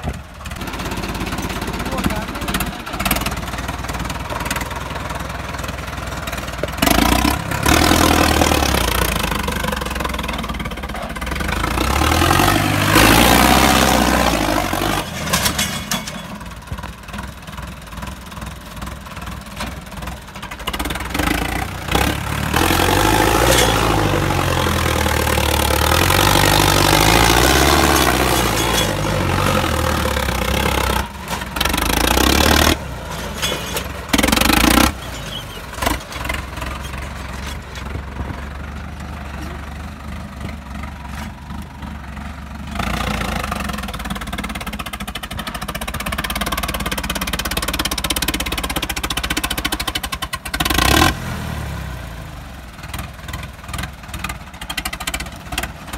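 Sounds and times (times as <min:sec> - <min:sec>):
diesel tractor engine revving: 0:00.0 - 0:55.9.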